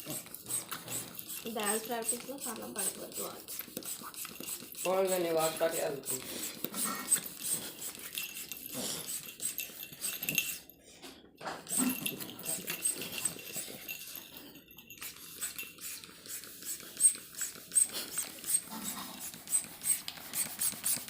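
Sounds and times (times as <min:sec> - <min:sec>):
dog hissing: 0:00.0 - 0:10.5, 0:11.6 - 0:14.0, 0:15.1 - 0:21.0.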